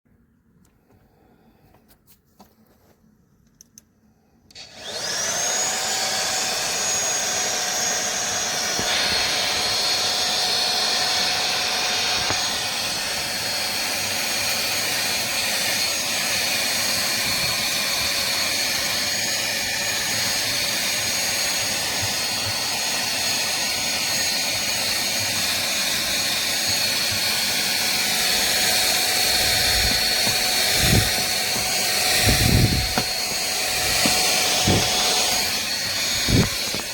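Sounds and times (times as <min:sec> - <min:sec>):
vacuum cleaner motor whining: 0:04.5 - 0:36.9.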